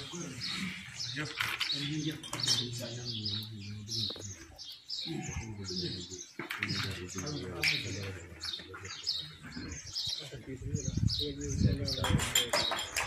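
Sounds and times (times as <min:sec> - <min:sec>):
murmur of voices: 0:00.0 - 0:13.0
small birds chirping: 0:00.0 - 0:13.0.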